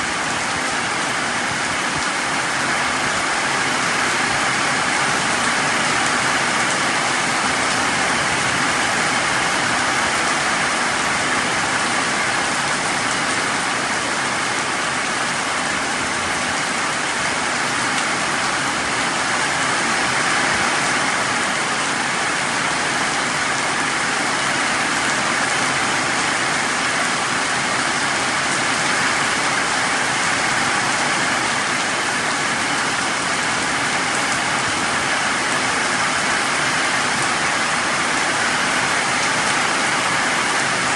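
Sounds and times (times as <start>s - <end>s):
heavy rain on leaves: 0.0s - 40.9s.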